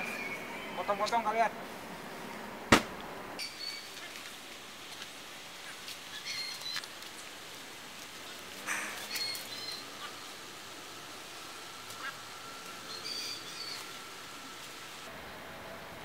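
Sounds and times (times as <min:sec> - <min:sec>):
faint outdoor hiss: 0:00.0 - 0:16.0.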